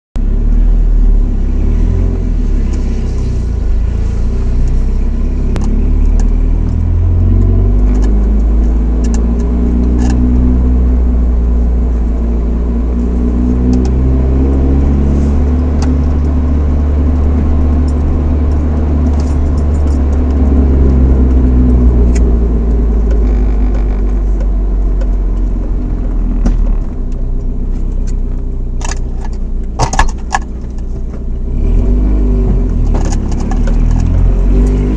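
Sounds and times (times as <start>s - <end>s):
truck engine revving: 1.4s - 27.1s, 31.5s - 34.9s.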